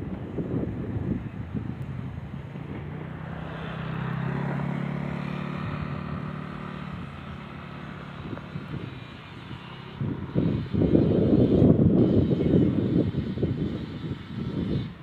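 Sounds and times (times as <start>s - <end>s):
vehicle engine passing: 0.0s - 15.0s.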